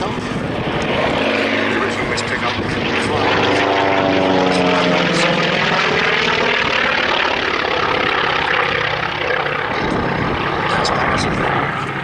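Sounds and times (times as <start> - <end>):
propeller aircraft engines drone: 0.0 - 12.0.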